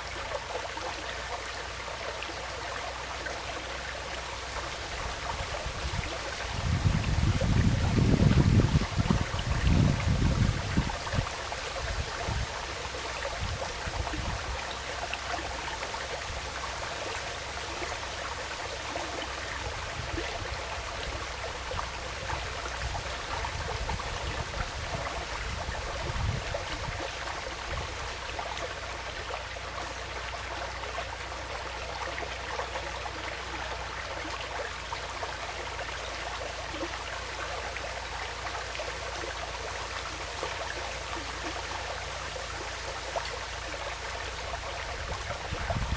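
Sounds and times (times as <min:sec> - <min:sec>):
stream flowing and trickling: 0:00.0 - 0:45.9.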